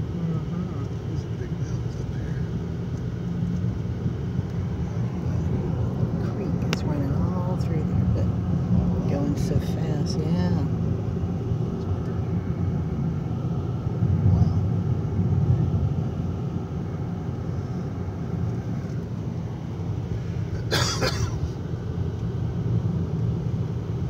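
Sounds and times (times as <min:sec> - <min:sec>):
car cabin engine and road noise: 0:00.0 - 0:24.0.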